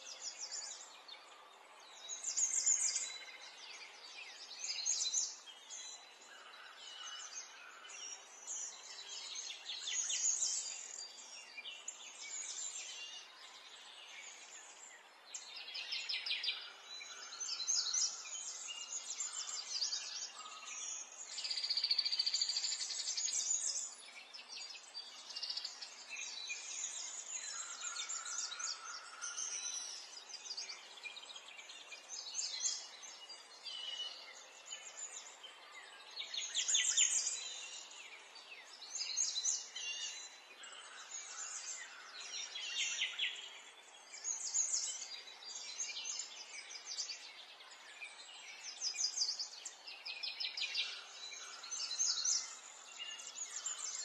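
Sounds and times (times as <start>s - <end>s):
small birds chirping and singing: 0.0s - 54.0s.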